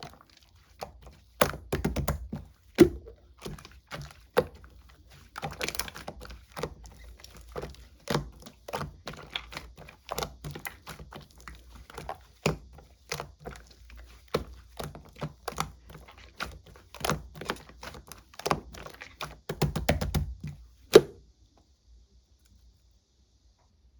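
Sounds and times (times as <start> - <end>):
slime clicking and popping: 1.4 - 21.1.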